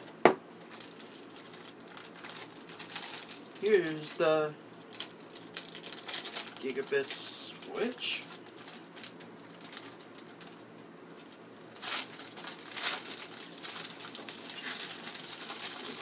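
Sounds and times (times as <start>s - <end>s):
plastic bag crinkling: 0.5s - 16.0s.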